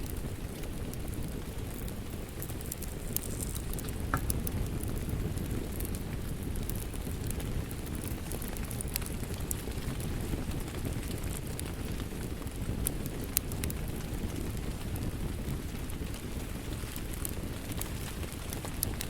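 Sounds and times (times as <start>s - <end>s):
rain: 0.0s - 19.0s
wood fire crackling: 0.0s - 19.0s.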